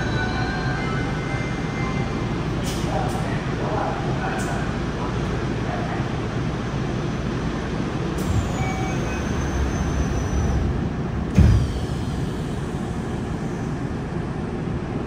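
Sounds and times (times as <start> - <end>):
subway car equipment humming: 0.0 - 15.0.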